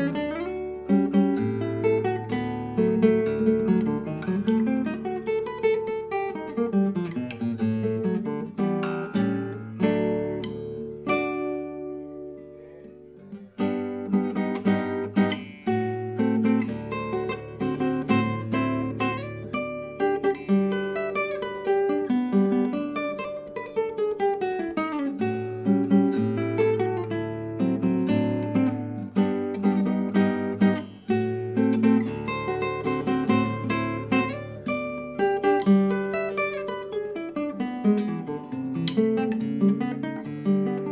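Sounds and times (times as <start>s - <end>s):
acoustic guitar music: 0.0s - 40.9s.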